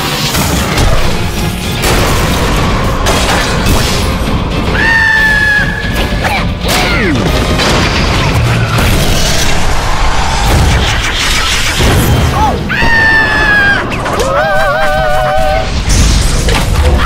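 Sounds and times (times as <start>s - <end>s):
crashing and booming effects: 0.0s - 4.8s, 6.6s - 14.4s, 15.5s - 17.0s
cartoon action music: 0.0s - 17.0s.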